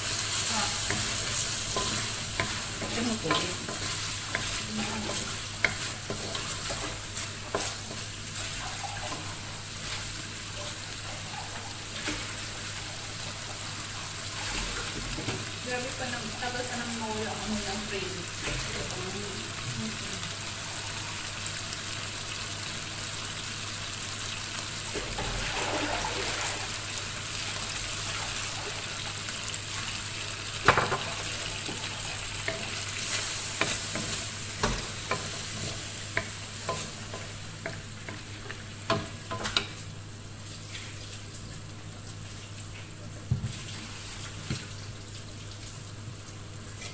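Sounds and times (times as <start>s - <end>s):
chicken sizzling in a wok: 0.0s - 46.9s.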